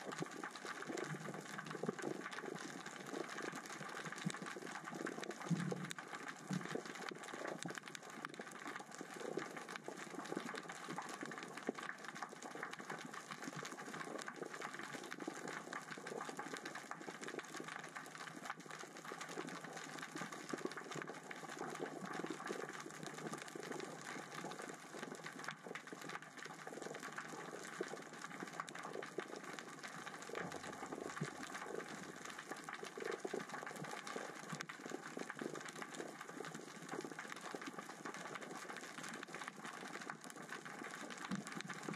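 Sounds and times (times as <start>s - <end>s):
underwater rocks rolling crackle: 0.0s - 41.9s.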